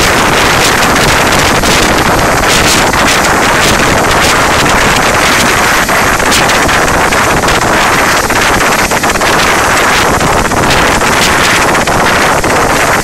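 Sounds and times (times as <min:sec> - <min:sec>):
downwash buffeting microphone: 0:00.0 - 0:13.0
helicopter turbines and rotor roaring: 0:00.0 - 0:13.0.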